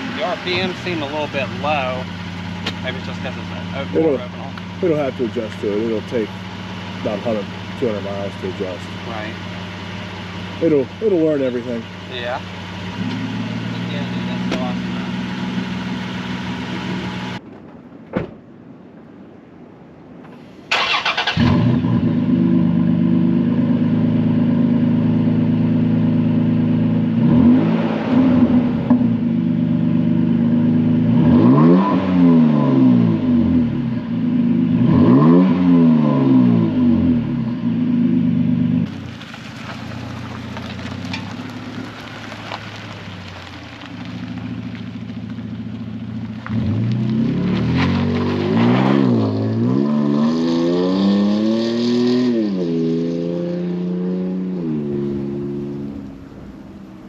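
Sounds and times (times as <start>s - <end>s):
truck engine idling and revving: 0.0s - 17.4s, 20.8s - 57.0s.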